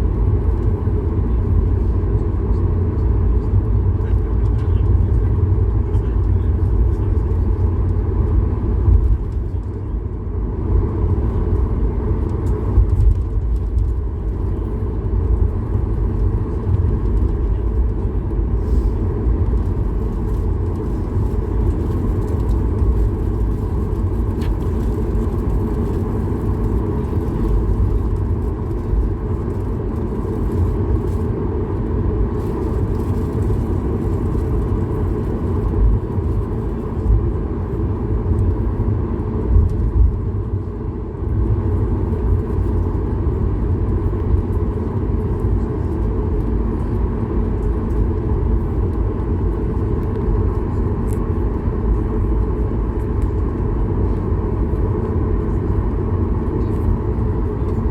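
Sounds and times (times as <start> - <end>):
airliner cabin noise: 0.0 - 57.9.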